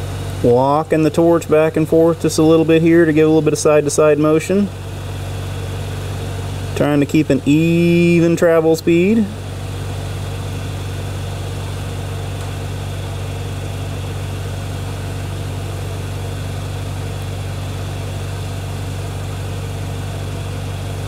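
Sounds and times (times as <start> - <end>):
welder engine humming: 0.0 - 21.0.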